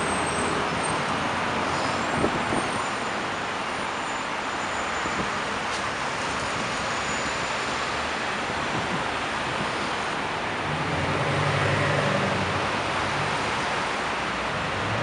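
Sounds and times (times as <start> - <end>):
cars passing on wet street: 0.0 - 15.0.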